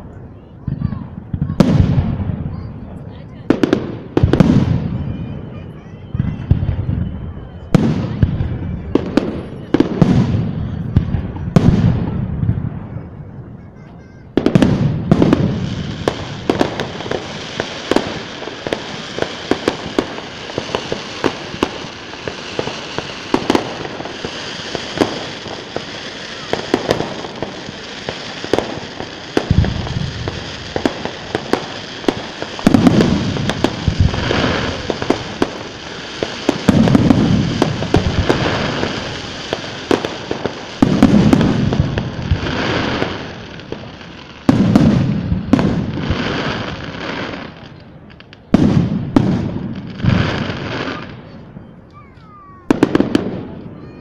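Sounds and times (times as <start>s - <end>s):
fireworks crackling and popping: 0.0s - 54.0s
loud firework booms: 0.6s - 13.4s, 14.3s - 47.7s, 48.4s - 51.4s, 52.5s - 54.0s.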